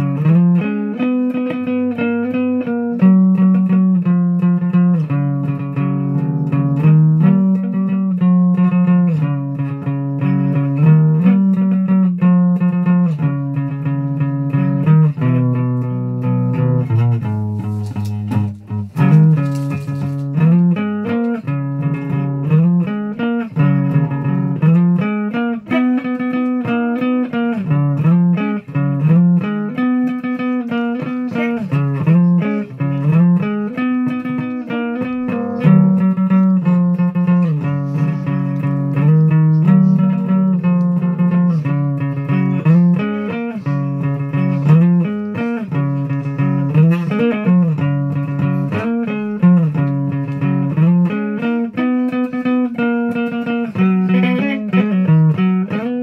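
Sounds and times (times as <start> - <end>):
plucked guitar music: 0.0 - 56.0.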